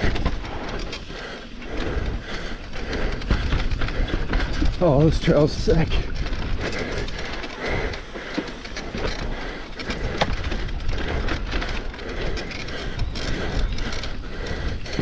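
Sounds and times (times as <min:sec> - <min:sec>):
bike frame and chain knocking: 0:00.0 - 0:15.0
tyres rolling over dirt trail: 0:00.0 - 0:15.0.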